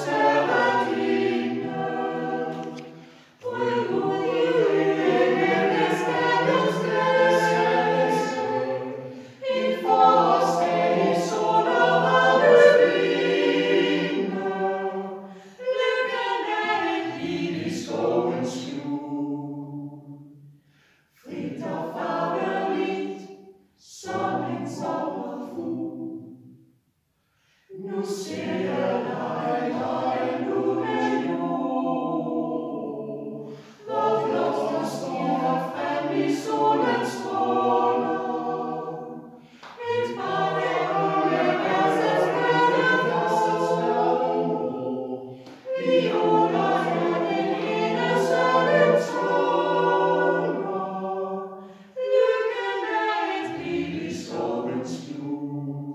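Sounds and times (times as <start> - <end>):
mixed choir singing a cappella: 0.0 - 26.6, 27.6 - 55.9.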